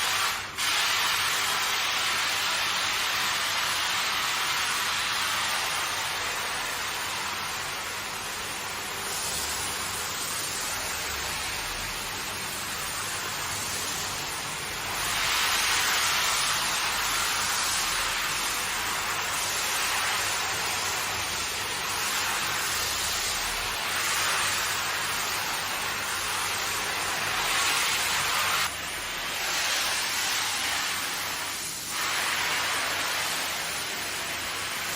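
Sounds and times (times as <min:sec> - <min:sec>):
water jet spraying wet carpet: 0:00.0 - 0:34.9.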